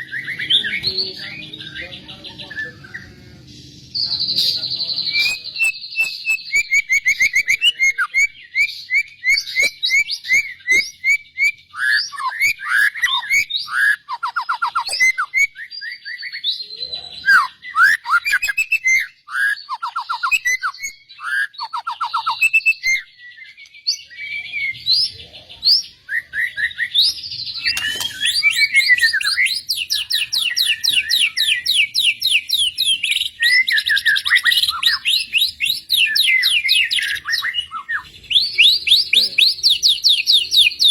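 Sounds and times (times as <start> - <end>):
bird song with whistles and trills: 0.0 - 40.9
rapid high bird chirps: 0.0 - 40.9.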